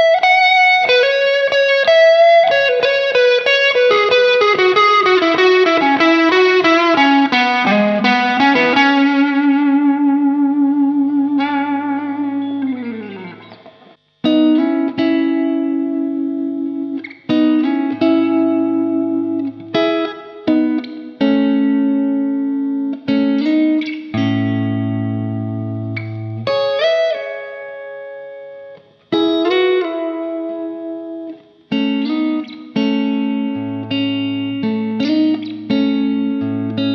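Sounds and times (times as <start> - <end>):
overdriven electric guitar: 0.0 - 36.9.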